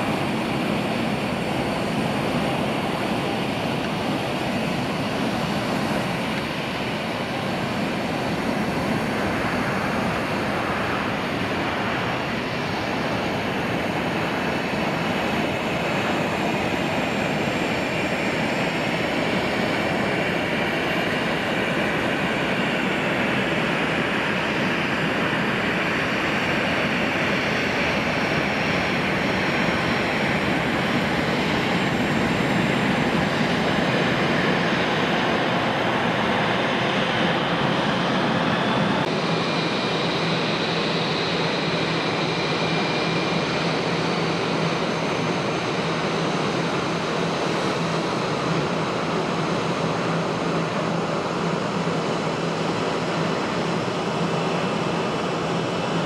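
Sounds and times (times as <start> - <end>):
jet engines idling with whine: 0.0 - 56.0
jet engines roaring: 0.0 - 56.0.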